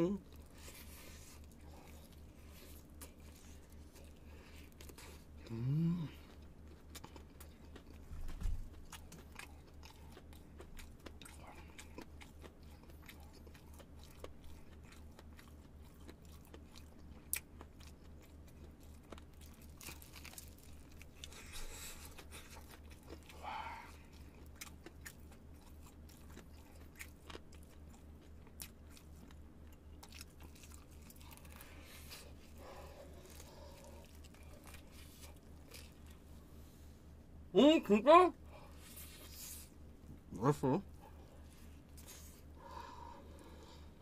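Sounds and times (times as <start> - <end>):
crunching and chewing fried chicken: 0.0 - 37.5, 38.4 - 44.0
low electrical hum: 0.0 - 44.0.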